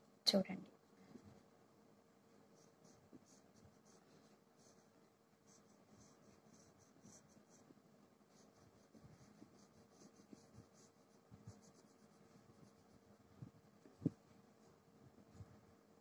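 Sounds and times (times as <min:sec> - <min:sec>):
crayon scratching on paper: 0:02.5 - 0:15.6.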